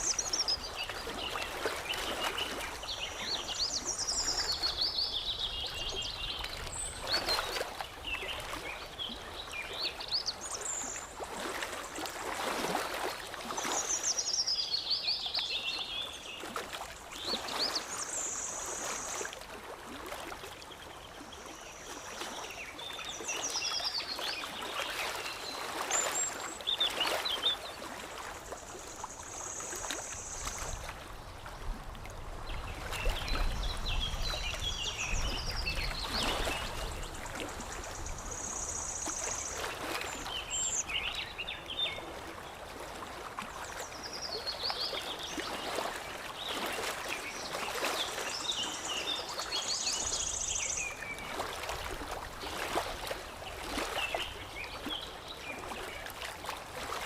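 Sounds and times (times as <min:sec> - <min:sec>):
water lapping and trickling: 0:00.0 - 0:57.0.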